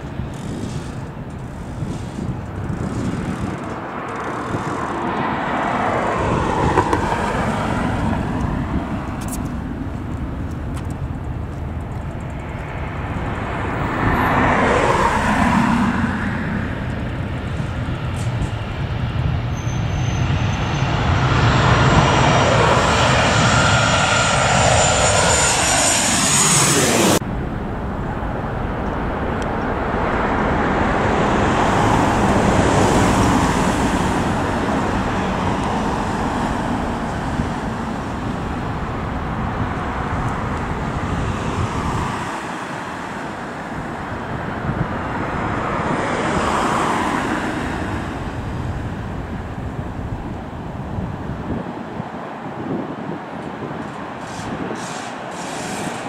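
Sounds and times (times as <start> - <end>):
jet airliner passing overhead: 0.0 - 56.0
rumble of jet on approach: 0.0 - 56.0.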